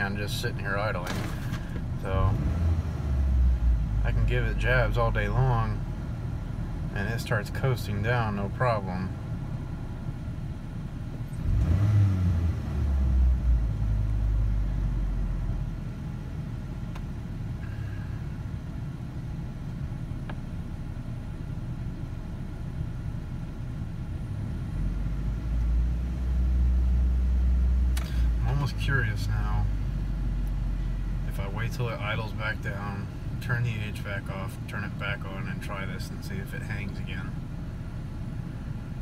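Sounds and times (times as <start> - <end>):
engine high idle rumble: 0.0 - 2.5, 3.2 - 11.6, 13.0 - 39.0.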